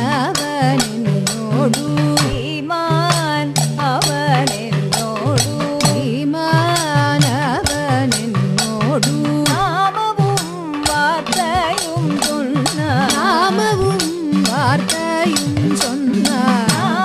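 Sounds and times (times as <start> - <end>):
hand drums: 0.0 - 17.0
woman singing: 0.0 - 17.0.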